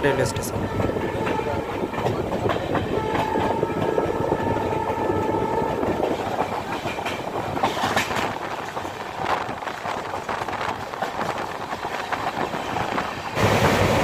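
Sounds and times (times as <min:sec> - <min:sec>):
train wheels clattering: 0:00.8 - 0:14.0.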